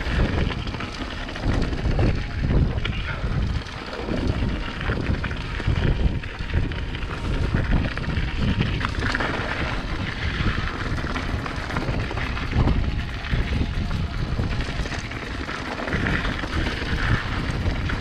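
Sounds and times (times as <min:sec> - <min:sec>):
bike rattles and clicks: 0:00.0 - 0:18.0
bike tyres rolling on dirt: 0:00.0 - 0:18.0
wind buffeting microphone: 0:00.0 - 0:18.0.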